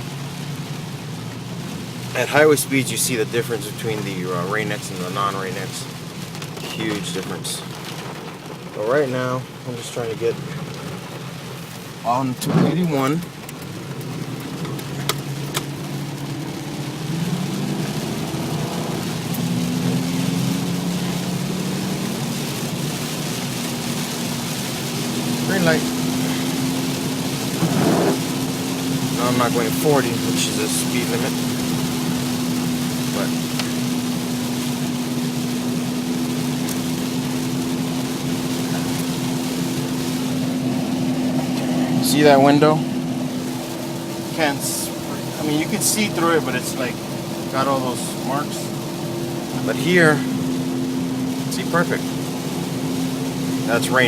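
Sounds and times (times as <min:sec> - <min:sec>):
car engine hum: 0:00.0 - 0:54.0
rain hiss: 0:00.0 - 0:54.0.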